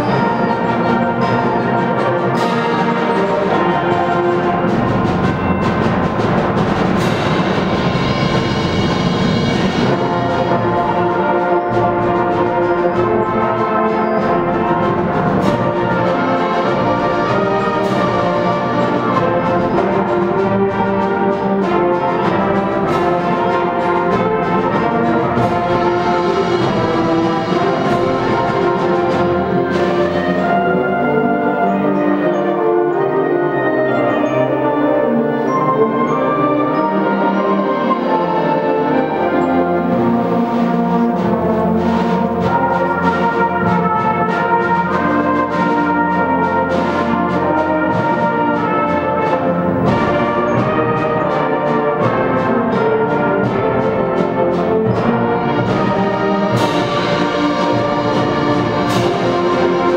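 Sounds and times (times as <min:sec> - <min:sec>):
brass and woodwind chords: 0:00.0 - 0:59.9
percussion strikes: 0:00.0 - 0:59.9.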